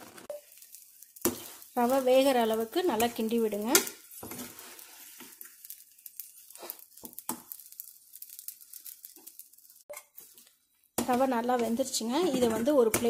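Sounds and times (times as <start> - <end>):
metal spoon scraping a pan: 0.5 - 10.4, 11.0 - 13.0.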